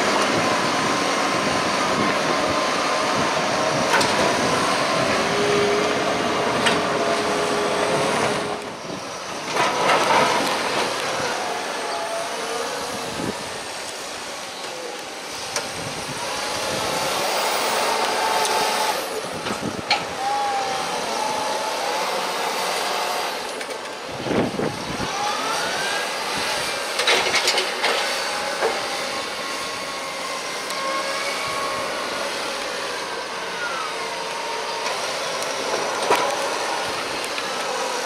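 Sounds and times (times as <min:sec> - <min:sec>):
tractor engines running: 0:00.0 - 0:38.0.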